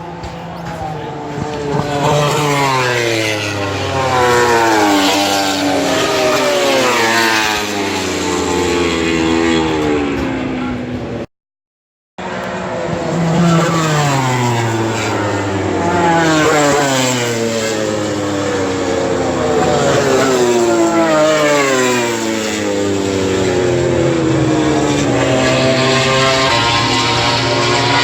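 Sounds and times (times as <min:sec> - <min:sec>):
racing motorcycles passing by: 0:00.0 - 0:11.3, 0:12.2 - 0:28.0.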